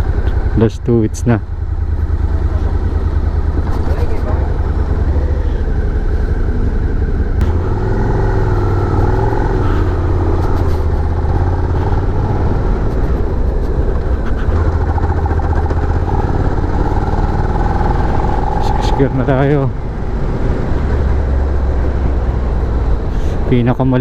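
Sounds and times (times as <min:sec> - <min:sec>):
motorcycle engine drone: 0:00.0 - 0:24.0.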